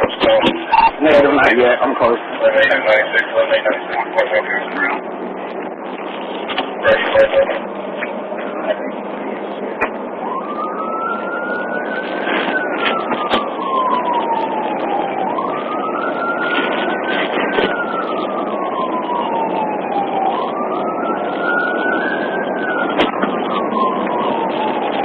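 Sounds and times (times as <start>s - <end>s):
police siren wailing: 0.0s - 25.0s
road noise: 0.0s - 25.0s.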